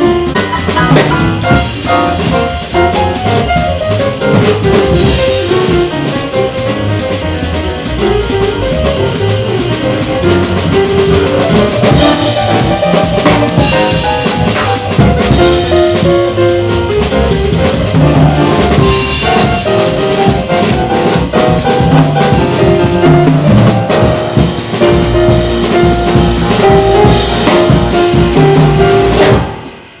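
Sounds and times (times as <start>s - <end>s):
busy drumming: 0.0s - 30.0s
jazz piano trio playing: 0.0s - 30.0s.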